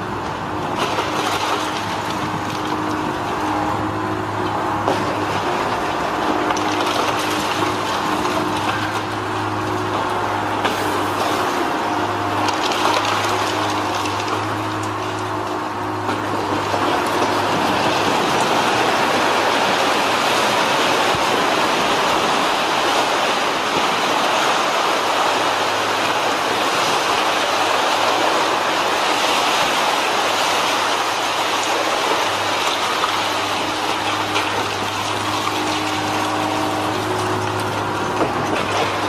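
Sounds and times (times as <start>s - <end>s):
demolition machine engine hum: 0.0s - 39.0s.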